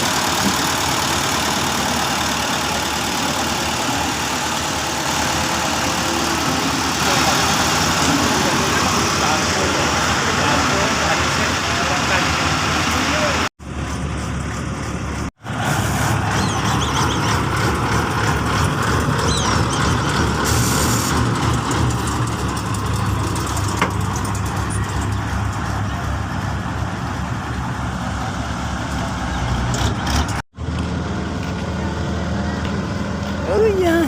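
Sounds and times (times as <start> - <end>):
diesel construction machinery running: 0.0 - 34.0.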